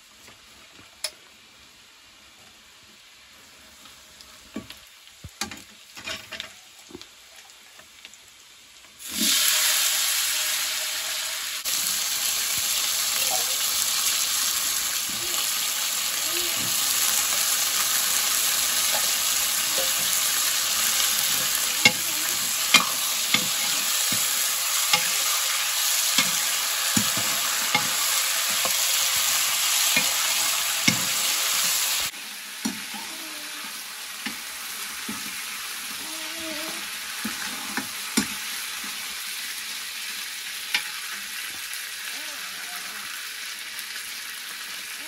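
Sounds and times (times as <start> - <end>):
potatoes sizzling in oil: 0.0 - 45.0.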